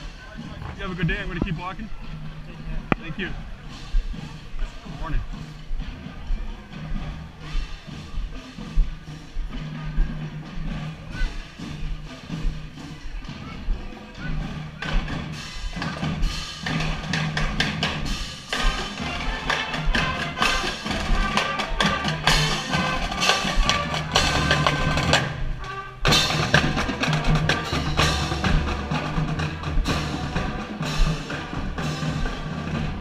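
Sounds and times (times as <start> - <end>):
marching band playing: 0.0 - 33.0
sharp percussion strikes: 0.0 - 33.0.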